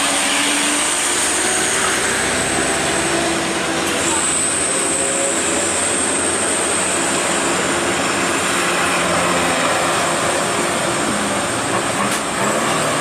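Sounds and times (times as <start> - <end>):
road noise rushing: 0.0 - 13.0
truck engine running: 0.0 - 13.0.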